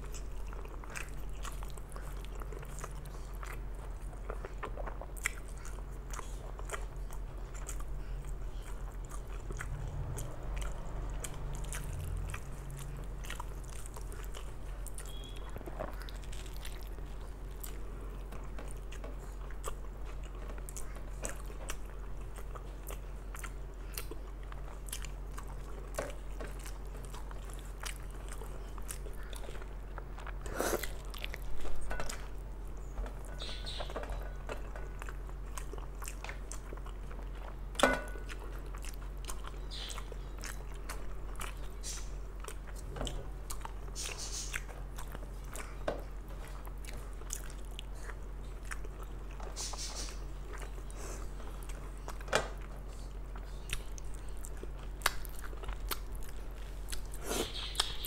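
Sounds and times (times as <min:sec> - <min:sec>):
person chewing wetly: 0:00.0 - 0:58.0
steady low hum: 0:00.0 - 0:58.0.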